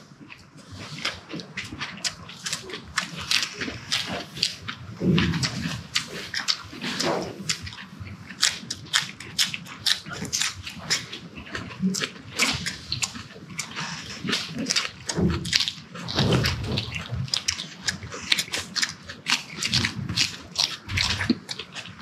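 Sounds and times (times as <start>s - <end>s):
people chewing and lip smacking: 0.0s - 22.0s.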